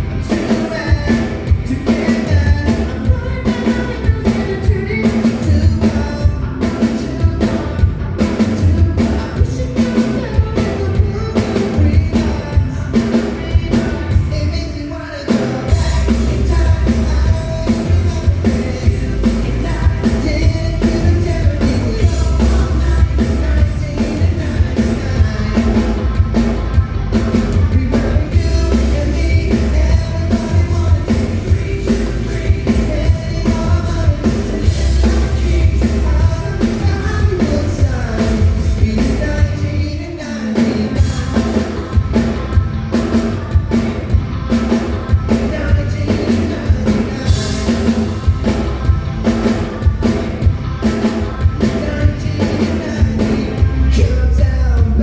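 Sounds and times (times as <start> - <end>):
drum-kit beat: 0.0 - 55.0
person singing: 0.0 - 55.0
rock-pop band playing: 0.0 - 55.0.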